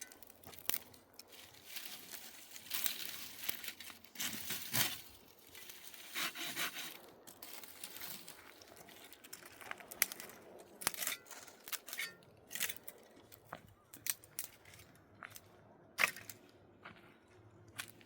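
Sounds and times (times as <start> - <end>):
crinkling and rustling handling noise: 0.0 - 15.5.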